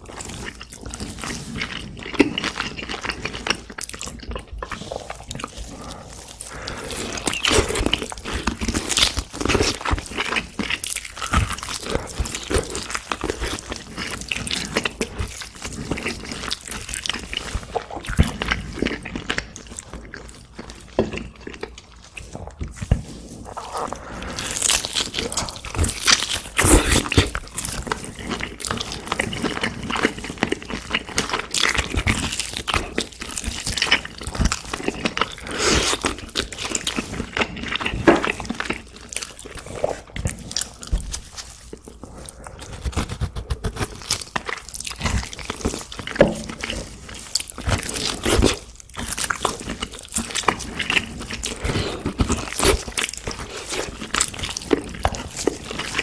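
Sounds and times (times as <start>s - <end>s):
person chewing meat: 0.0s - 56.0s.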